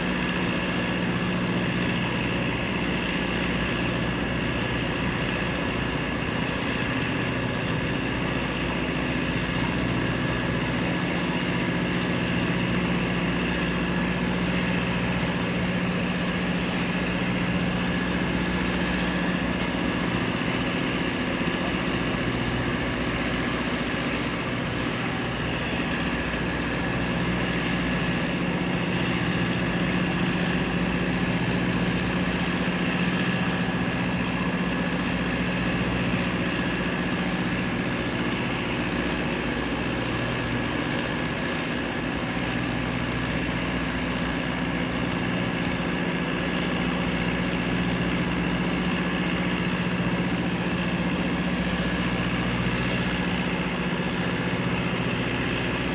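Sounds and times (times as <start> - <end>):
gas turbines running: 0.0 - 55.9.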